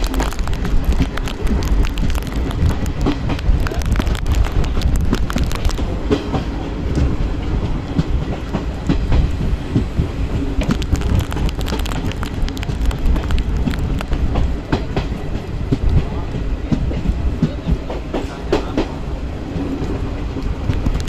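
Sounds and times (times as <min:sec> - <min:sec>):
train rumbling: 0:00.0 - 0:21.0
wheels clicking on rails: 0:00.0 - 0:21.0.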